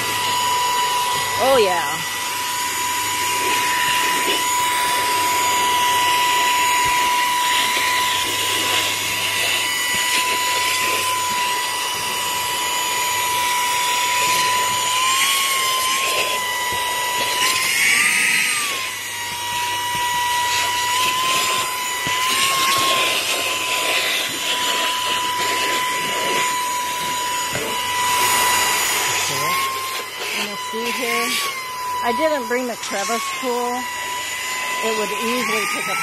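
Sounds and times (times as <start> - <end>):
handheld vacuum motor whine: 0.0 - 36.0.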